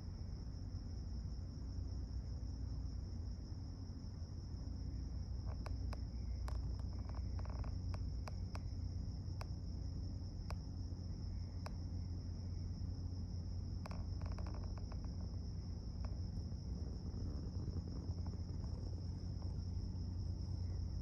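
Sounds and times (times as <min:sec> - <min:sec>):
crickets trilling: 0:00.0 - 0:21.0
low droning hum: 0:00.0 - 0:21.0.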